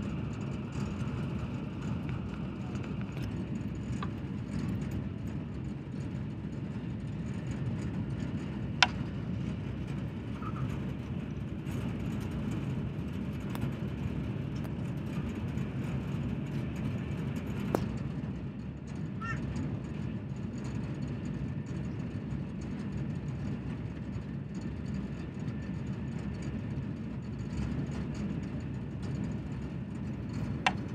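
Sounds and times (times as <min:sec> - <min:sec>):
train rumbling: 0:00.0 - 0:30.9.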